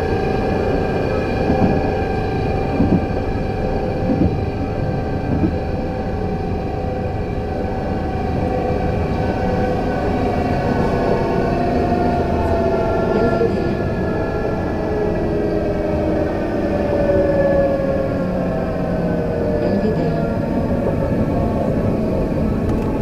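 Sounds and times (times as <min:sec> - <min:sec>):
tram motor whine: 0:00.0 - 0:23.0
tram running rumble: 0:00.0 - 0:23.0.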